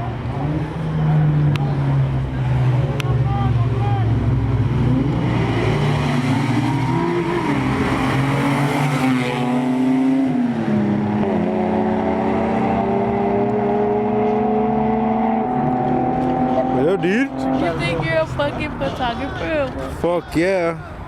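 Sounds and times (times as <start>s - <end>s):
car engine revving high: 0.2s - 18.4s.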